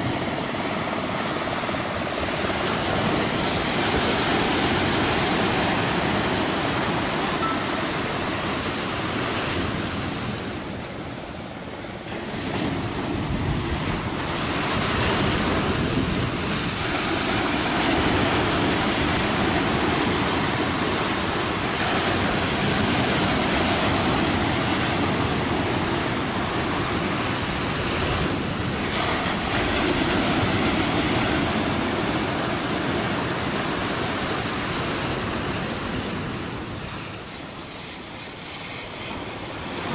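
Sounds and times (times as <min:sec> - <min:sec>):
waves washing against rocks: 0:00.0 - 0:39.9
wind rumble on microphone: 0:00.0 - 0:39.9.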